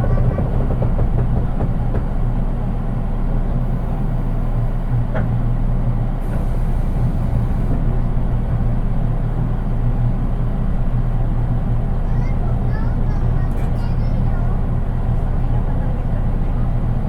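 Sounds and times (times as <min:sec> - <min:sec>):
train wheels humming on rail: 0:00.0 - 0:17.0.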